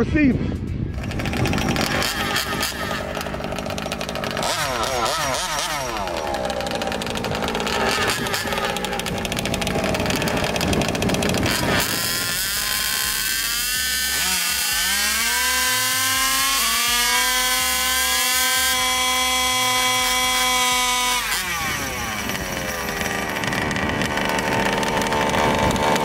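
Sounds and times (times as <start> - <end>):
two-stroke engine revving: 0.9 - 26.0.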